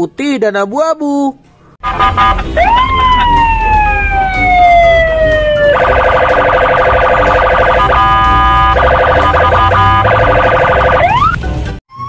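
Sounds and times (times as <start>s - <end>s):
police siren wailing and yelping: 1.8s - 12.0s.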